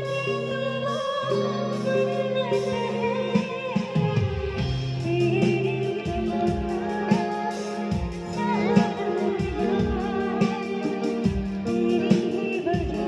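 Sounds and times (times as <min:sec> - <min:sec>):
electric guitar: 0:00.0 - 0:13.0
keyboard chords: 0:00.0 - 0:13.0
woman singing a slow song: 0:00.0 - 0:13.0.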